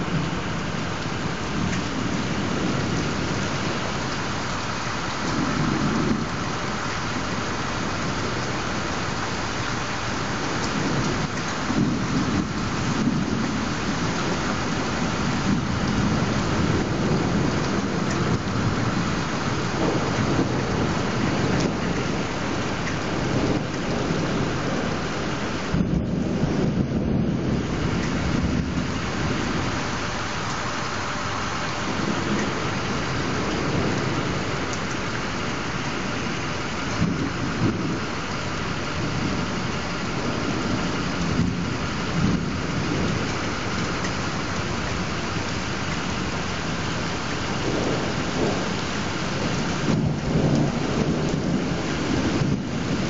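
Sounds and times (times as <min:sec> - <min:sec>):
steady rain: 0:00.0 - 0:53.0
thunder rumbling: 0:00.0 - 0:53.0.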